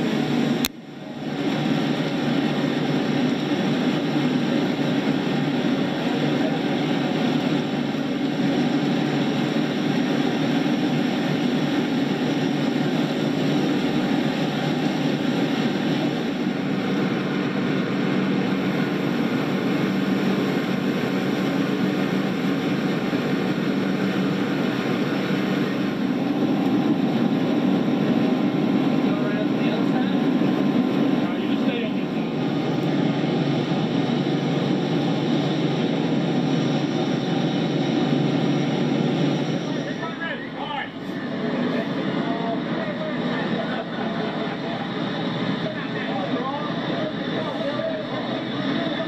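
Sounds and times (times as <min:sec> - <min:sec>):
fire hose spraying water: 0:00.0 - 0:49.0
pump engine drone: 0:00.0 - 0:49.0.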